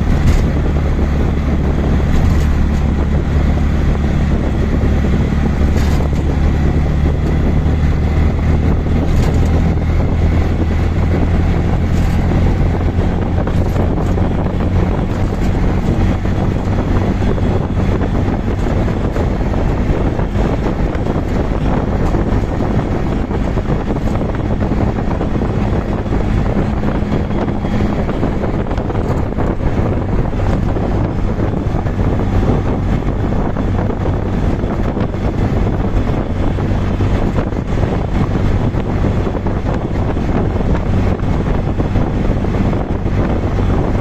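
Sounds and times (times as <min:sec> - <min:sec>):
auto rickshaw engine droning: 0:00.0 - 0:44.0
road rumble: 0:00.0 - 0:44.0
wind buffeting microphone: 0:00.0 - 0:44.0.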